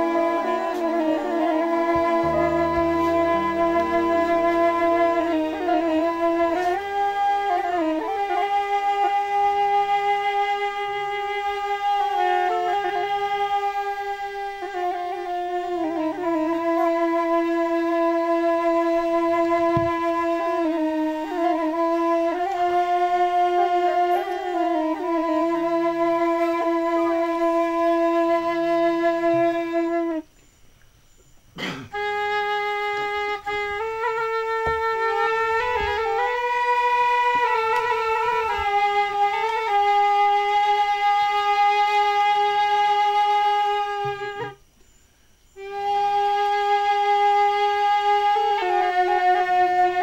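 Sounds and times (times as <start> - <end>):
flute-like wind instrument melody: 0.0 - 30.4, 31.9 - 44.8, 45.5 - 50.0.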